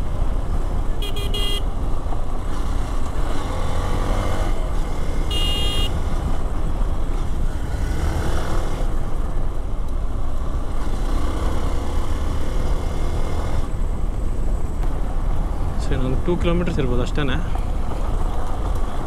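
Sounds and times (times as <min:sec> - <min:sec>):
wind and tyre rumble: 0:00.0 - 0:19.0.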